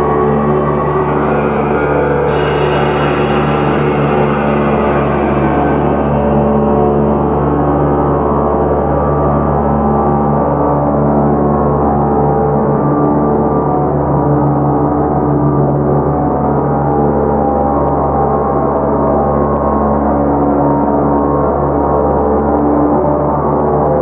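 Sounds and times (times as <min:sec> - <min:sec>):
ambient drone music: 0:00.0 - 0:23.2.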